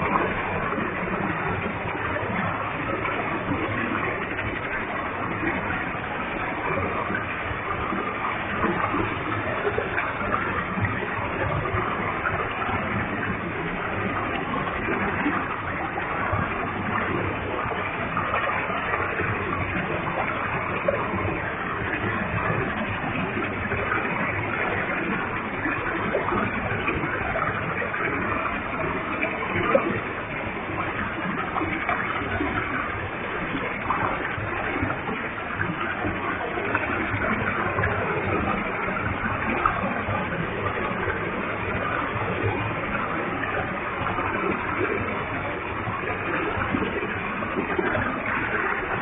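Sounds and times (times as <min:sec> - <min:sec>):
waterfall rushing and splashing: 0:00.0 - 0:49.0.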